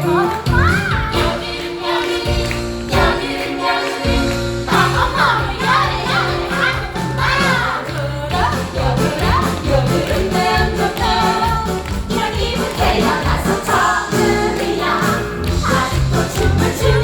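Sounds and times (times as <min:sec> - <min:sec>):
voices singing: 0:01.0 - 0:17.0.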